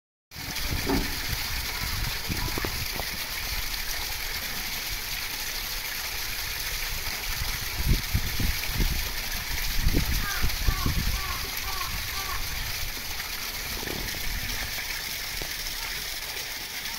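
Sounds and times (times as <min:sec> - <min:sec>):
running water rushing: 0:00.3 - 0:16.9.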